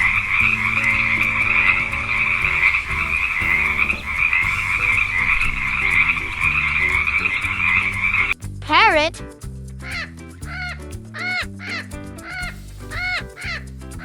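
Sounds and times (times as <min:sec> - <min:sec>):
light background music: 0:00.0 - 0:14.0.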